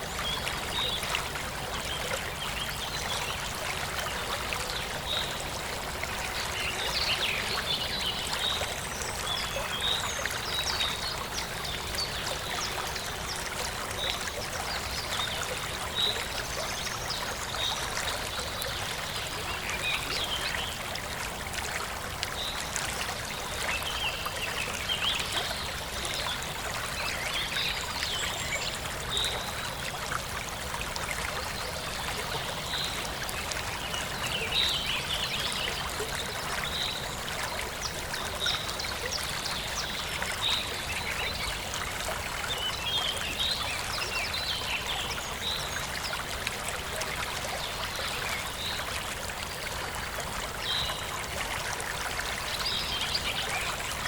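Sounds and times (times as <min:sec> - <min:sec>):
forest stream trickling: 0:00.0 - 0:54.0.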